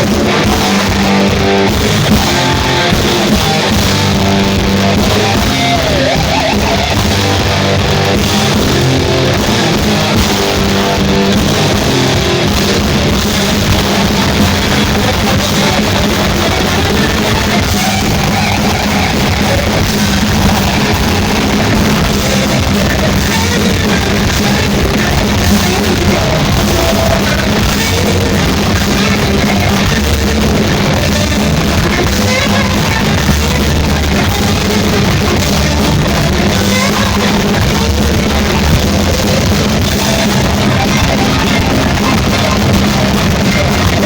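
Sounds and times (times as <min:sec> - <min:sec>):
bass guitar: 0:00.0 - 0:44.0
distorted electric guitars: 0:00.0 - 0:44.0
pounding drum kit: 0:00.0 - 0:44.0.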